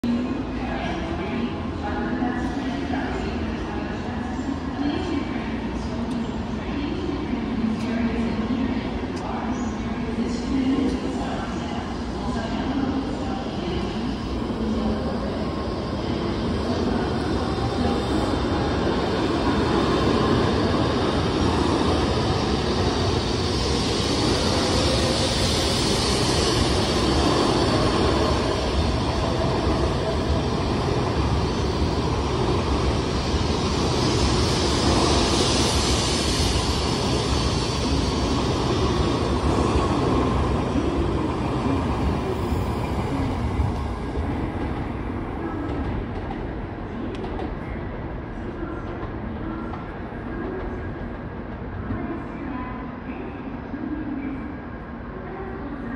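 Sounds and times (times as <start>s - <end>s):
train wheels rumbling on rail: 5.8s - 52.0s.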